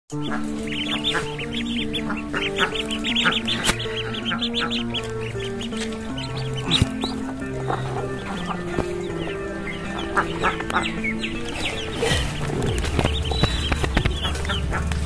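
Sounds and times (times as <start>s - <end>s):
background music with held notes: 0.1s - 15.0s
ducklings peeping: 0.1s - 15.0s.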